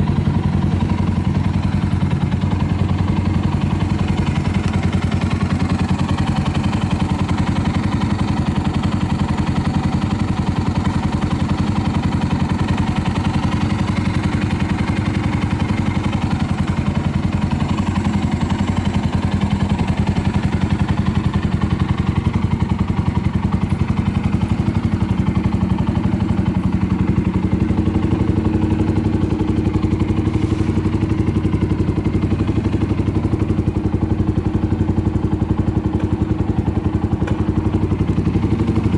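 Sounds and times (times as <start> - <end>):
single-cylinder engine idling: 0.0 - 38.9.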